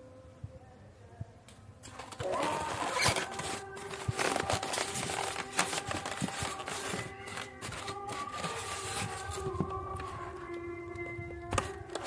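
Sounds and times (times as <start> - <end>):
cardboard packaging rustling: 1.9 - 12.0.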